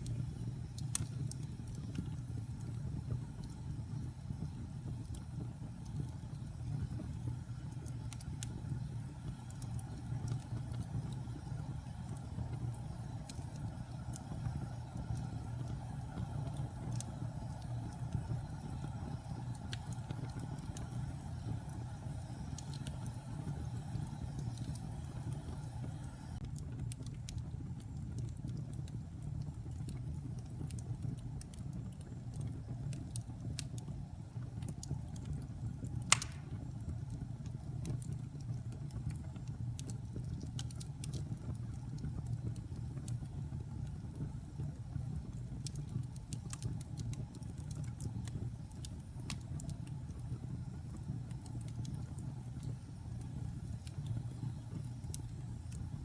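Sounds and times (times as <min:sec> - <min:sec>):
fire flames rumbling: 0:00.0 - 0:56.0
wood fire crackling and popping: 0:00.0 - 0:56.0.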